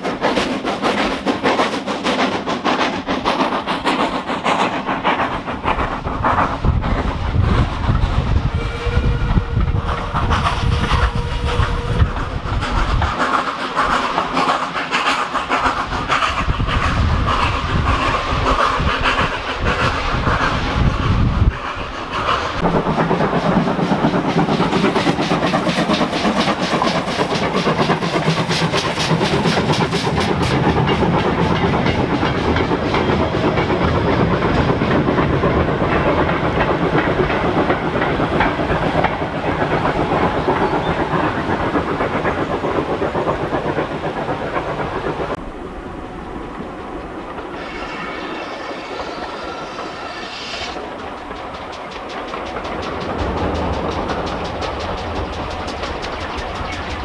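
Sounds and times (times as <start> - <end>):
train clattering on track: 0.0 - 57.0
train hiss: 0.0 - 57.0.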